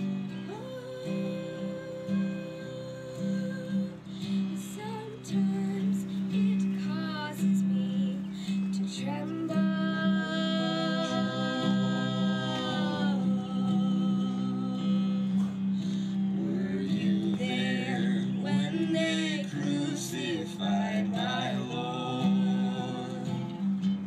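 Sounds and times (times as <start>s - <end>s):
man and woman singing together: 0.0s - 24.0s
twelve-string acoustic guitar: 0.0s - 24.0s.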